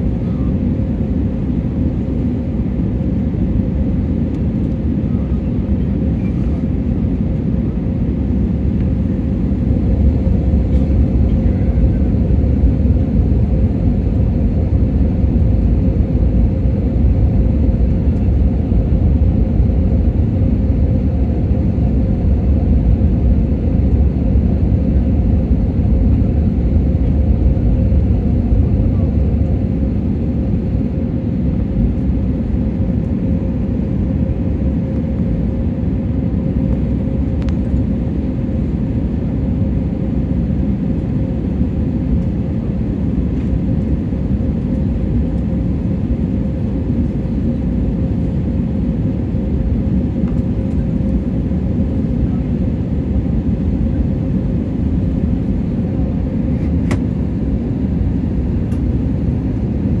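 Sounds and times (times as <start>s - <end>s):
constant hum: 0.0s - 60.0s
jet cabin engine rumble: 0.0s - 60.0s.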